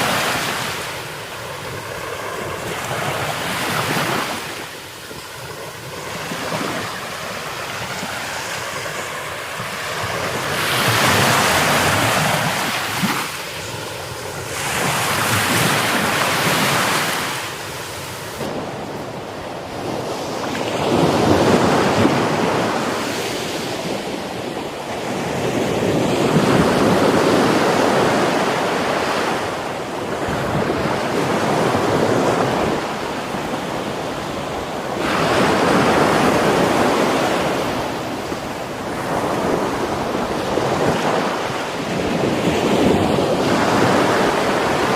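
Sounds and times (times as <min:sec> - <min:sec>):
surf breaking on a beach: 0:00.0 - 0:44.9.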